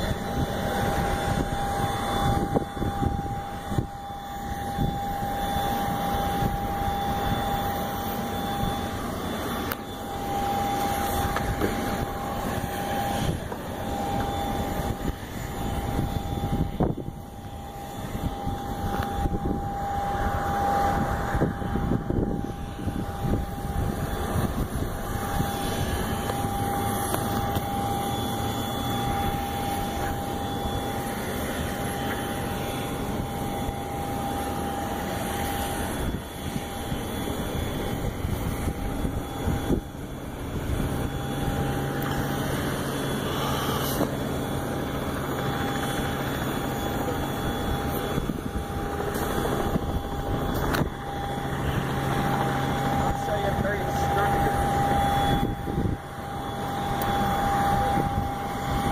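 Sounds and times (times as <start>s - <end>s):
high engine tone: 0.0s - 58.9s
jet engine roar: 0.0s - 58.9s.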